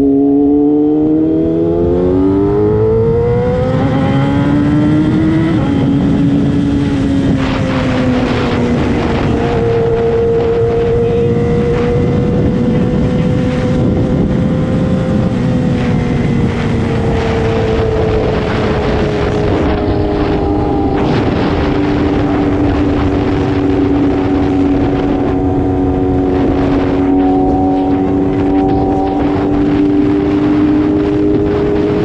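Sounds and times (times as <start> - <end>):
motorcycle engine at high revs: 0.0 - 32.0
wind rush: 0.0 - 32.0.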